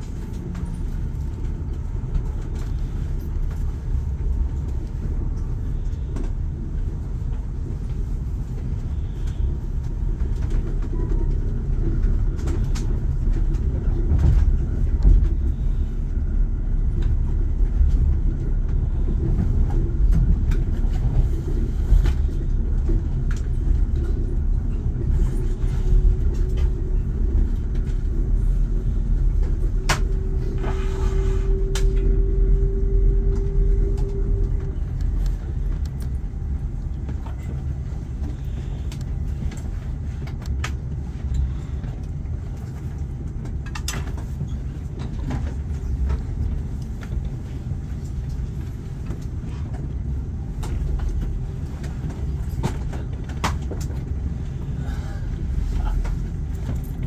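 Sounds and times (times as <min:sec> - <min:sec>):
steady whine: 0:00.0 - 0:57.0
train rumbling: 0:00.0 - 0:57.0.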